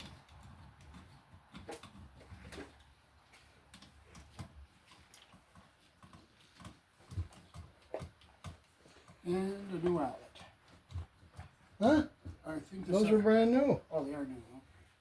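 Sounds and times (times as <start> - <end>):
faint handling clicks and knocks: 0.0 - 12.5.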